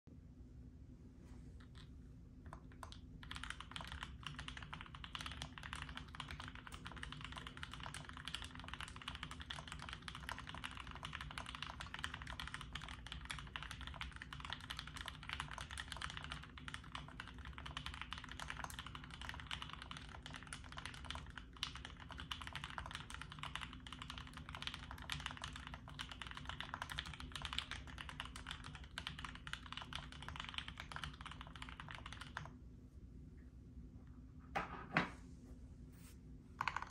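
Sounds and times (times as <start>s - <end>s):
fast typing on mechanical keyboard: 2.5s - 32.6s, 36.6s - 36.9s.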